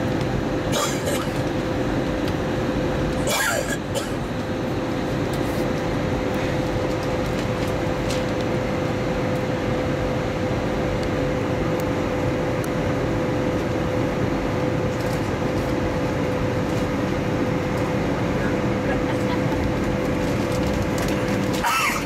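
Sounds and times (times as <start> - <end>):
airplane cabin noise: 0.0 - 22.0.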